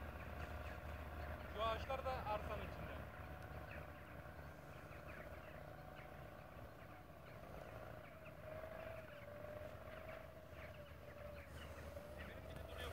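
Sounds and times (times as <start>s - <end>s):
bird chirps: 0.0s - 12.9s
distant hum: 0.0s - 12.9s.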